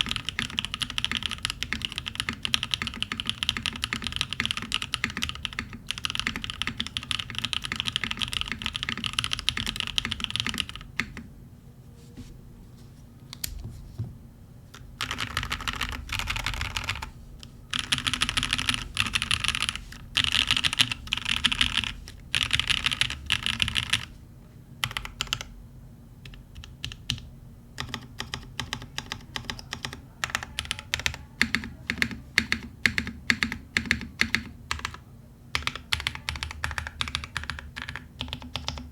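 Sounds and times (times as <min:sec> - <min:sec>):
mechanical keyboard typing: 0:00.0 - 0:11.3, 0:15.0 - 0:17.1, 0:17.7 - 0:24.1, 0:24.8 - 0:25.5, 0:26.2 - 0:38.9.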